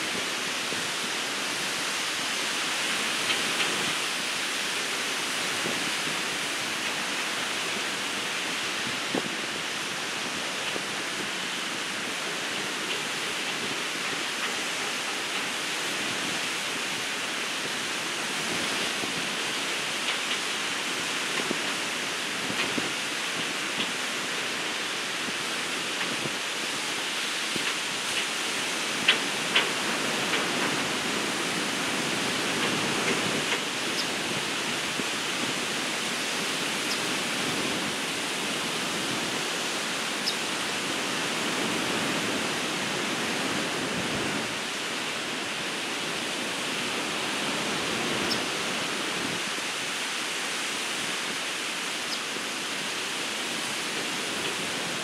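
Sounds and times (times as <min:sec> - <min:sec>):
ocean waves rushing on beach: 0:00.0 - 0:55.0.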